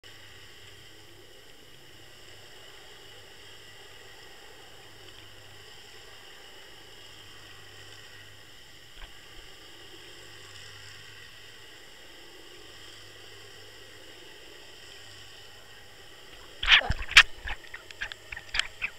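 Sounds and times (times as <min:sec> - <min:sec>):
faint hum: 0:00.0 - 0:18.9.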